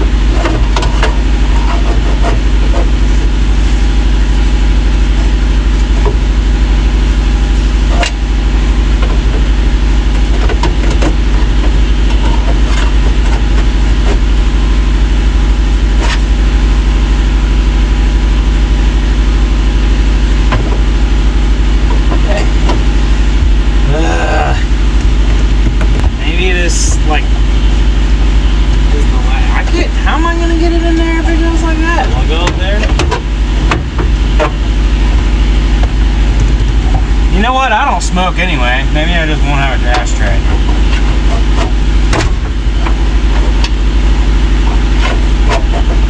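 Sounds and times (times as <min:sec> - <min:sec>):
loud mechanical drone: 0:00.0 - 0:46.0.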